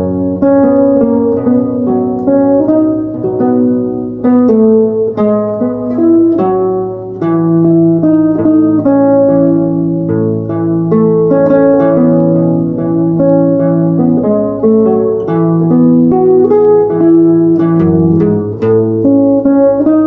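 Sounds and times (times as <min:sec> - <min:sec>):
solo guitar playing: 0:00.0 - 0:20.0.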